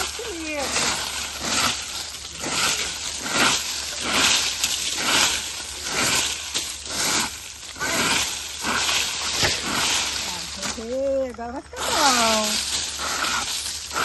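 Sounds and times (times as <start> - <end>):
dry leaves being raked: 0.0 - 14.0.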